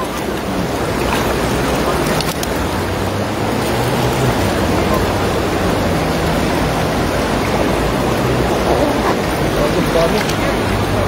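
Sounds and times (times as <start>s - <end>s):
shallow water sloshing and splashing: 0.0s - 11.0s
steady rushing noise: 0.0s - 11.0s.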